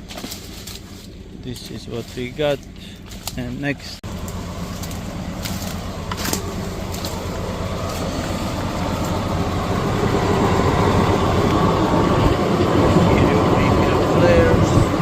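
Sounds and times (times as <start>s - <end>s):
flail mower mulching: 0.0s - 15.0s
tractor running: 0.0s - 15.0s.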